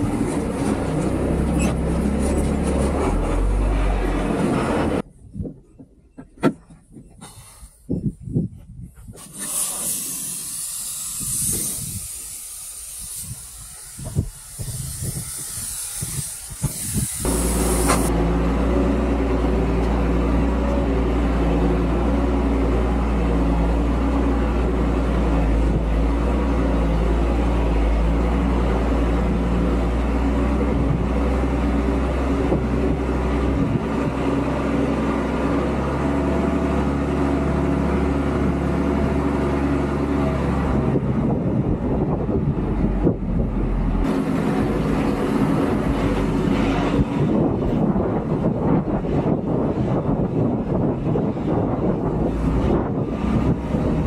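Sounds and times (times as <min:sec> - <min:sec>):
diesel engine running: 0:00.0 - 0:05.1, 0:09.2 - 0:54.0.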